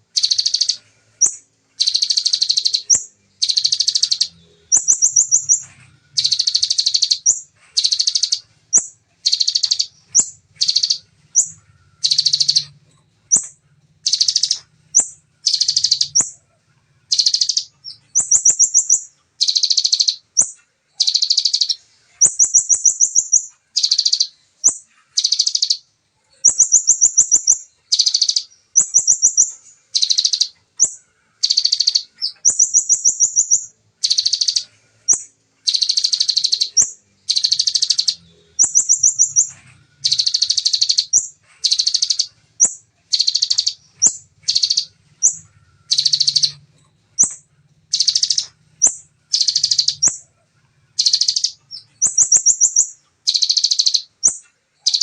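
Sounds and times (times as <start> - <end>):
bird singing rapid trills: 0.0 - 55.0.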